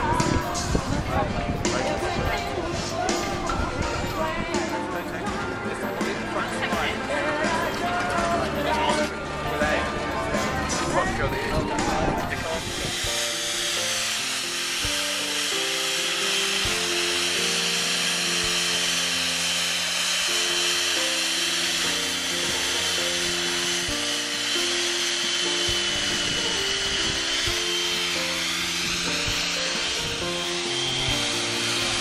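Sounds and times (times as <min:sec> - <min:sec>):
music playing: 0:00.0 - 0:32.0
chainsaw cutting ice: 0:05.8 - 0:32.0.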